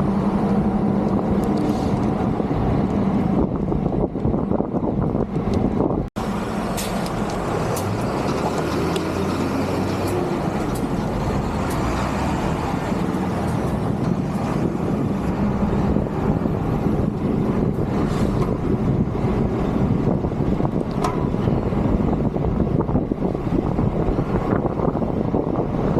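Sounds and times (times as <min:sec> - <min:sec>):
motor traffic on road: 0:00.0 - 0:25.9
wind rush on microphone: 0:00.0 - 0:25.9.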